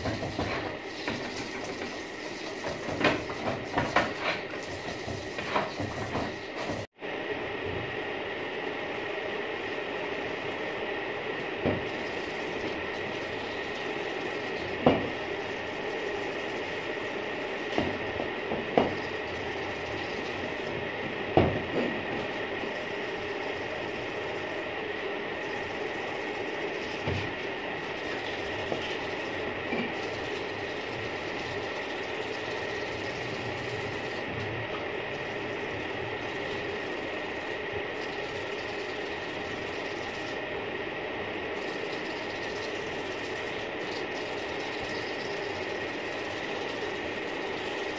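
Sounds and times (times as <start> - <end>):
machine hum with high whine: 0.0 - 47.9.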